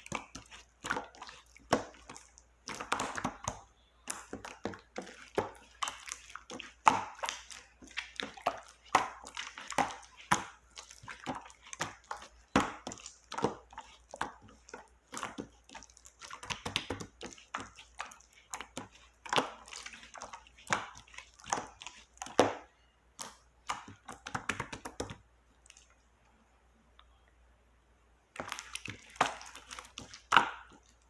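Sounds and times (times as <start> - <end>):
slime squished by hand: 0.0 - 25.9.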